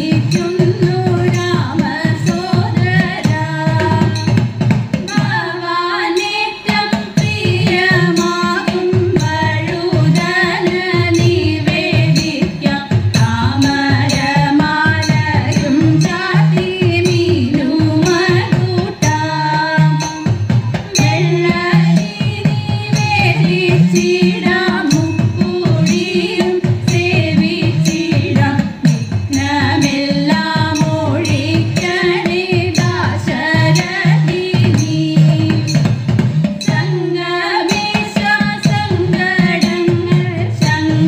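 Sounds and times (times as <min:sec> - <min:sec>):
steady percussion beat: 0:00.0 - 0:41.0.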